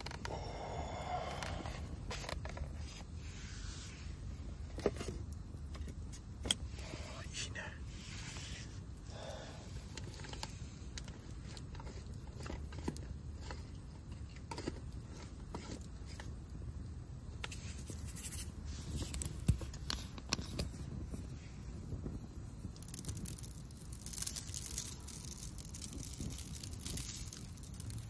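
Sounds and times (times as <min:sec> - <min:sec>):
firewood crackling and popping: 0:00.0 - 0:28.0
low steady rumble: 0:00.0 - 0:28.0.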